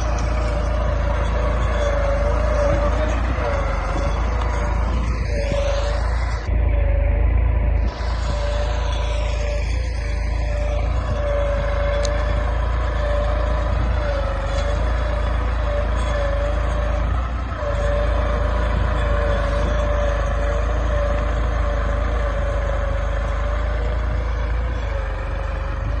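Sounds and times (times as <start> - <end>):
tractor diesel engine running hard: 0.0 - 26.0.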